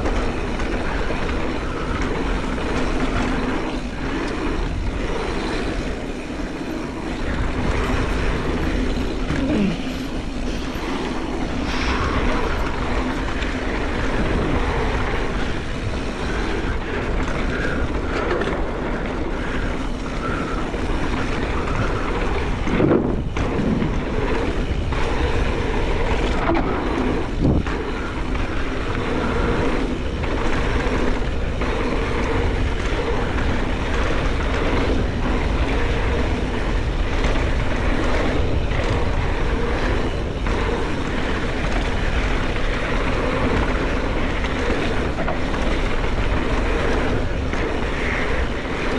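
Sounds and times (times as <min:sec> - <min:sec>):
bike rattling and knocking: 0:00.0 - 0:48.9
bike tyres on dirt: 0:00.0 - 0:48.9
wind rushing over microphone: 0:00.0 - 0:48.9.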